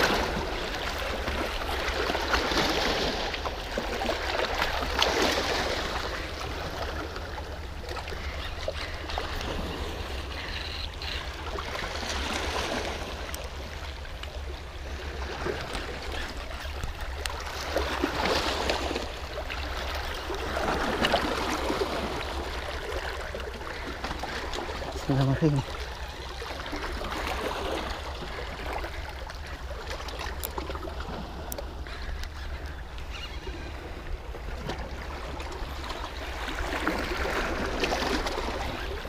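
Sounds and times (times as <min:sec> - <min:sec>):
small waves lapping against rocks: 0:00.0 - 0:39.0.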